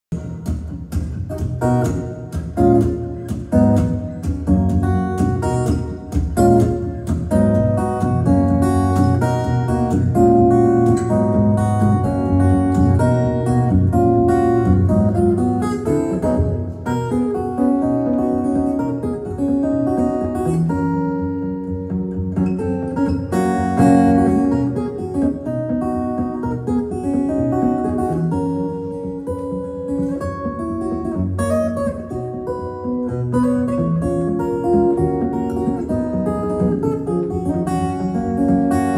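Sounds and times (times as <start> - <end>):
fingerstyle acoustic guitar: 0.1 - 38.9.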